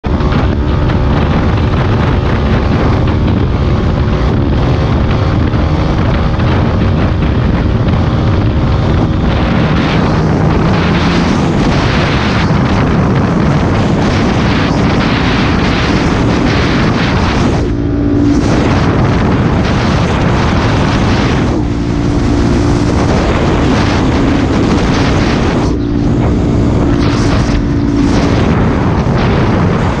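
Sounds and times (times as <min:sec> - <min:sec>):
motorcycle engine running: 0:00.0 - 0:30.0
wind noise on microphone: 0:00.0 - 0:30.0.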